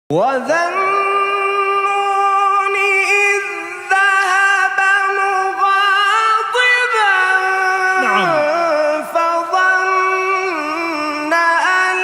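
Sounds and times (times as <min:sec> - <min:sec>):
person chanting melodically: 0:00.1 - 0:12.0.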